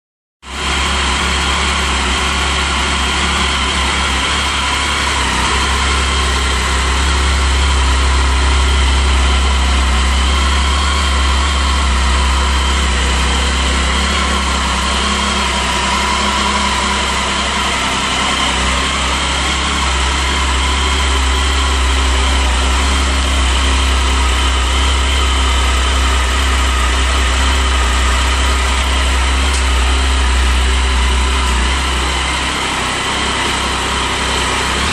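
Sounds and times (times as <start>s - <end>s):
motorcycle engine idling: 0.5s - 34.9s.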